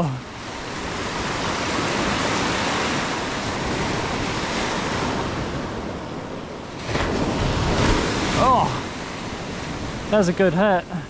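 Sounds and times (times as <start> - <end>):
small waves breaking on sand: 0.0 - 11.0.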